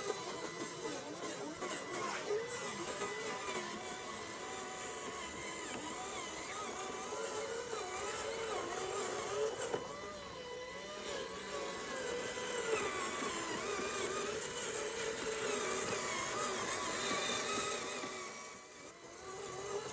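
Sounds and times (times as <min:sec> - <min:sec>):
small electric motors whining: 0:00.0 - 0:19.9.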